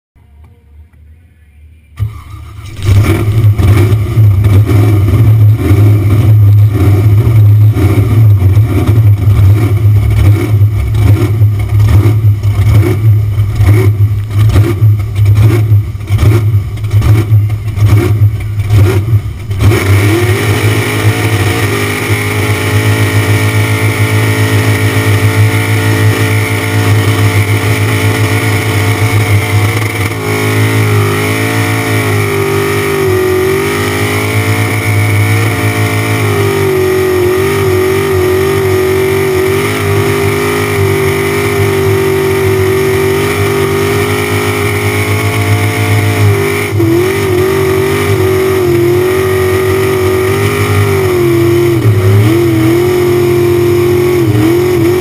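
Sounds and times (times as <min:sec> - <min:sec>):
supercharged engine revving: 0:02.0 - 0:55.0.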